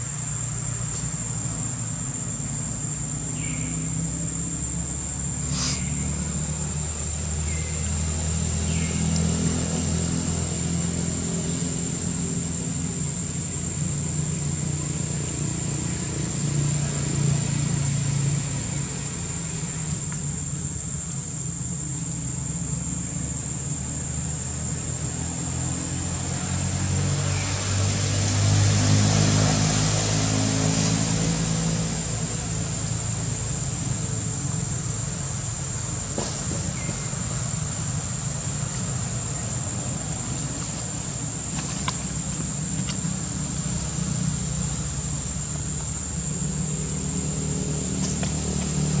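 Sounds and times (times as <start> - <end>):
vehicle engine humming: 0.0 - 49.0.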